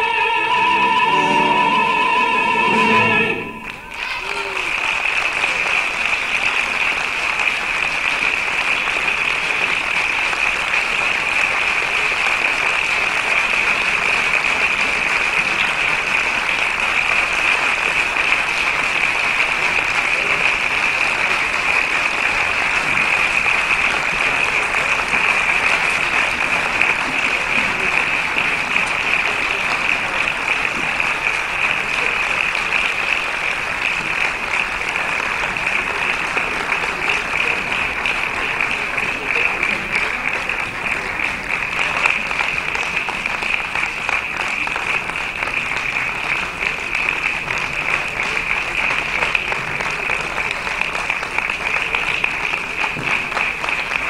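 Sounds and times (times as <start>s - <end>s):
large audience applauding: 0.0s - 54.0s.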